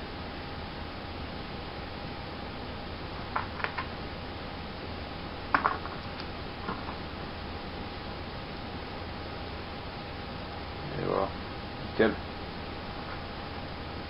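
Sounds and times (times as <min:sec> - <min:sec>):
faint hum: 0:00.0 - 0:14.0
steady hiss: 0:00.0 - 0:14.0.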